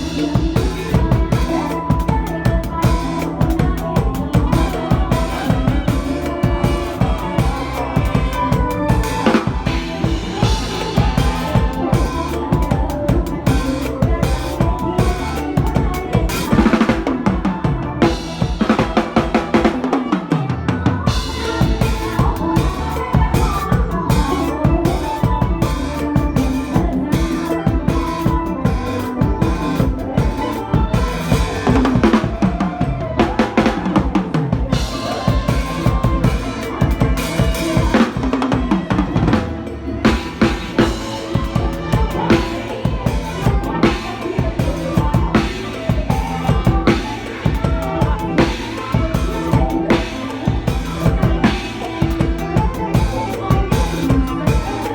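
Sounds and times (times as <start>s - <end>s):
band playing a melody: 0.0s - 54.9s
drum kit playing fast beat: 0.0s - 54.9s.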